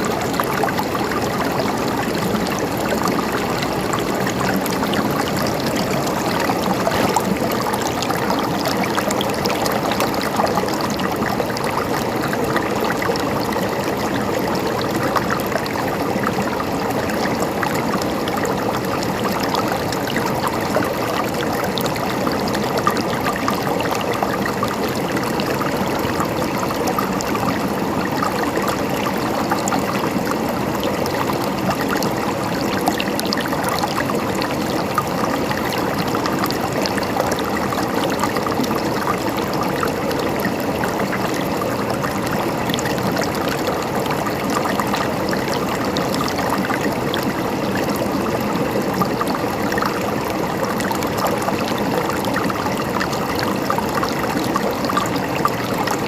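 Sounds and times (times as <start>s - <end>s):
river water gurgling over stones: 0.0s - 56.0s.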